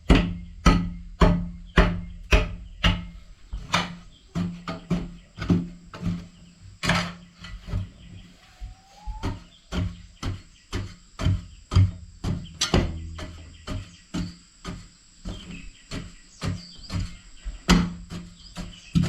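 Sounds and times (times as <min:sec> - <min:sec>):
hand tool striking hard material: 0:00.0 - 0:07.9, 0:08.7 - 0:19.0.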